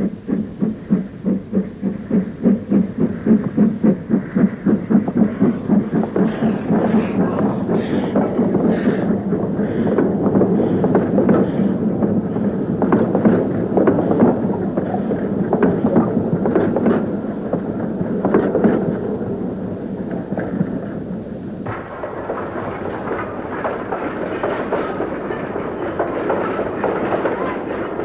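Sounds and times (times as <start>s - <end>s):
wheels clicking over rail joints: 0.0s - 19.2s, 21.6s - 28.0s
steam train exhaust chuffs: 0.0s - 28.0s
train rumble: 0.0s - 28.0s.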